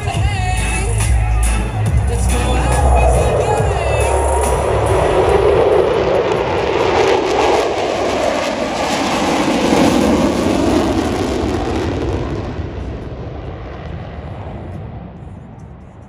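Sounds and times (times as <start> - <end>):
jet engines passing overhead: 1.6 - 16.0.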